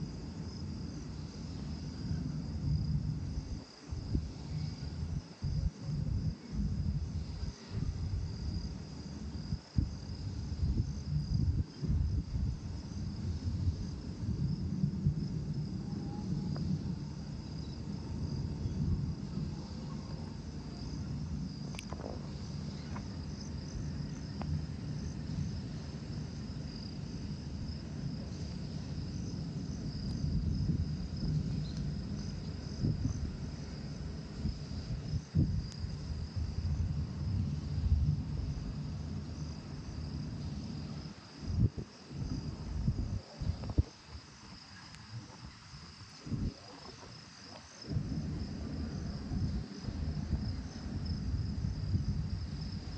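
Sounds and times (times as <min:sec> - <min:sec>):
crickets chirping: 0:00.0 - 0:52.9
low uneven rumble: 0:00.0 - 0:52.9.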